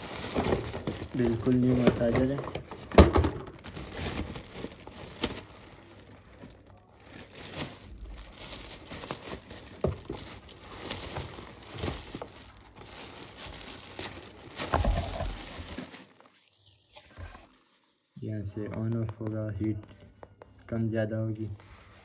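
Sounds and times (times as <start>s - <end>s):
plastic bag crinkling: 0.0s - 18.1s.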